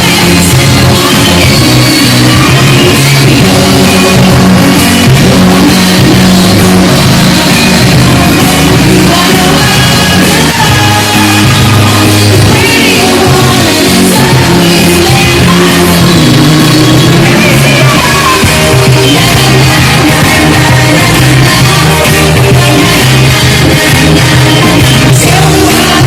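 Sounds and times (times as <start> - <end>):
distorted live pop music with singing: 0.0 - 26.0.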